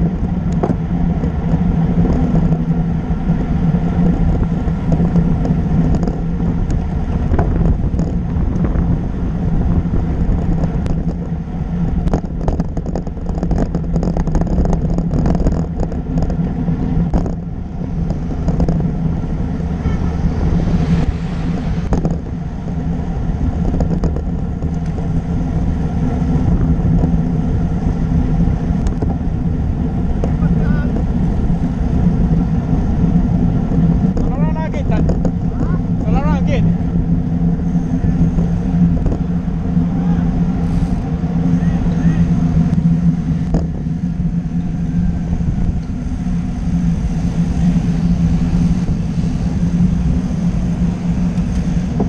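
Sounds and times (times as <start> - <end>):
bike clicks and rattles: 0.0 - 19.8, 23.0 - 52.0
low hum: 0.0 - 52.0
road rumble and wind noise: 0.0 - 52.0.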